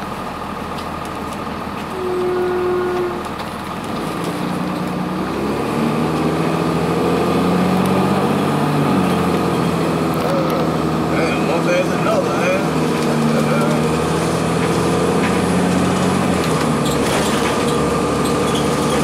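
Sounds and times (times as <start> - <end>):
bus diesel engine accelerating: 0.0 - 19.0.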